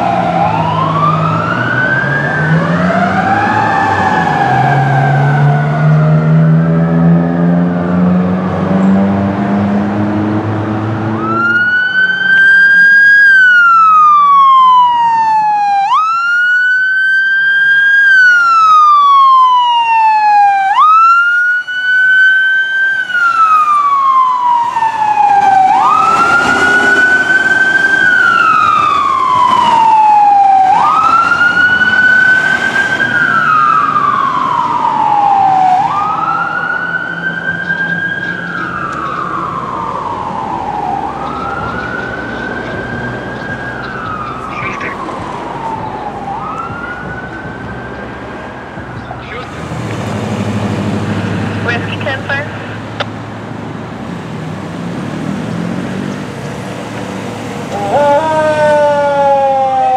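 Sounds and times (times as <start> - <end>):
fire truck siren wailing: 0.0 - 59.9.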